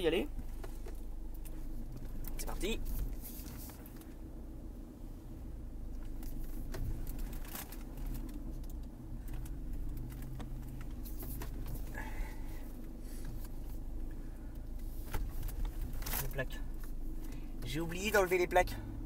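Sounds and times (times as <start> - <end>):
diesel engine running low: 0.0 - 19.0.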